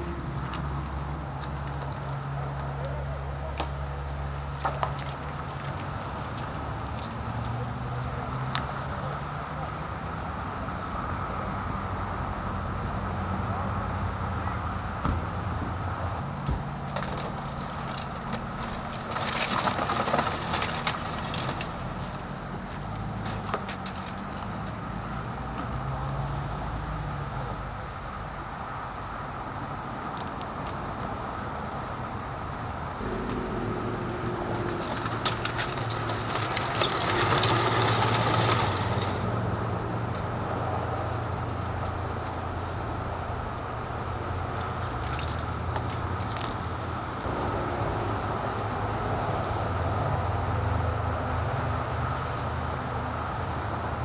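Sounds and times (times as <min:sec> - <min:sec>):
freeway traffic passing: 0:00.0 - 0:54.0.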